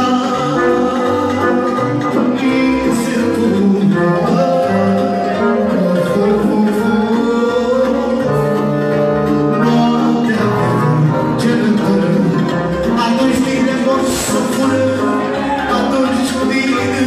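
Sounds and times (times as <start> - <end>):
man singing into a microphone: 0.0 - 17.0
piano accordion melody: 0.0 - 17.0.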